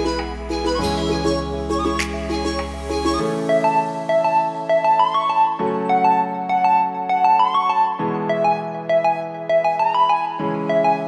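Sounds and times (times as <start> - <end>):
keyboard melody over held chords: 0.0 - 11.0.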